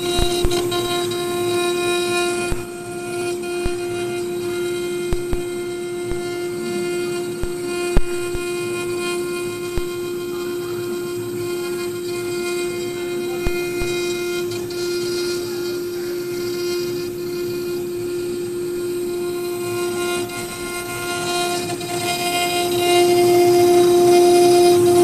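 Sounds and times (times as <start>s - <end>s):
bit cutting wood: 0.0s - 25.0s
router spindle whine: 0.0s - 25.0s.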